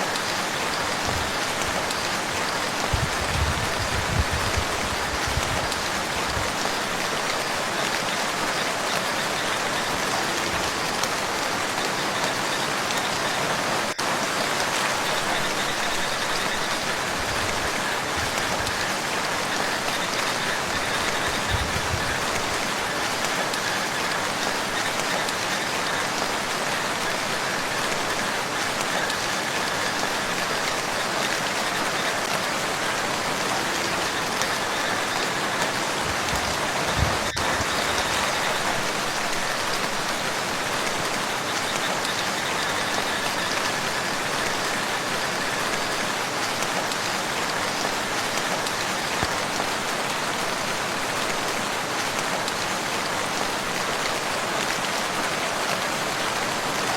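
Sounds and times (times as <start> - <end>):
rain falling on water: 0.0 - 56.9.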